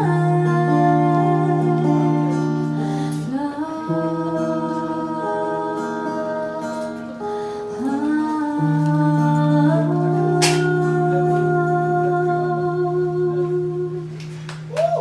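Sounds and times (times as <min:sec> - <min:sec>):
woman singing long notes: 0:00.0 - 0:14.2
acoustic guitar: 0:00.0 - 0:15.0.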